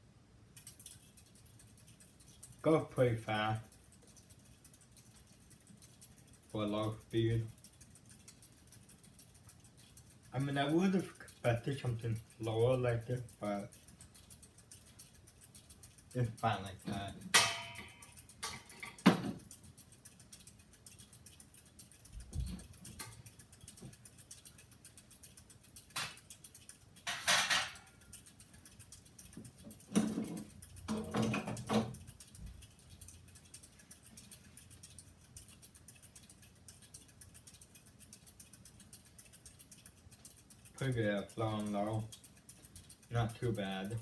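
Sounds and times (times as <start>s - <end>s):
ceiling fan humming: 0.0s - 44.0s.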